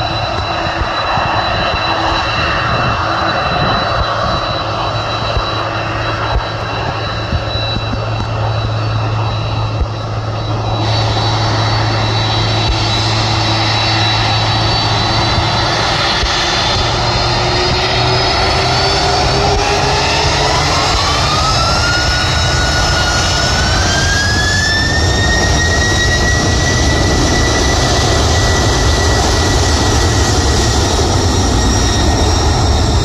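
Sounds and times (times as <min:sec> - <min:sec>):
deep hum: 0:00.0 - 0:33.0
jet engines whining: 0:00.0 - 0:33.0.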